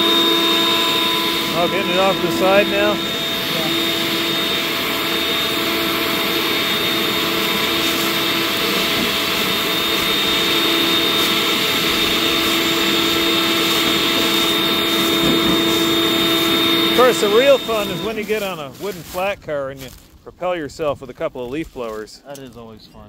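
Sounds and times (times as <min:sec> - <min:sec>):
leaf blower running: 0:00.0 - 0:20.1.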